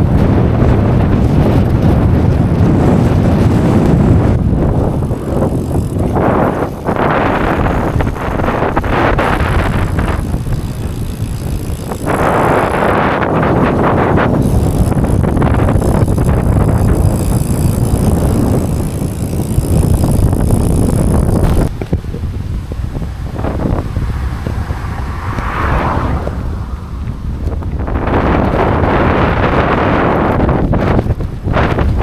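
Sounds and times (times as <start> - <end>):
strong wind buffeting microphone: 0.0 - 32.0.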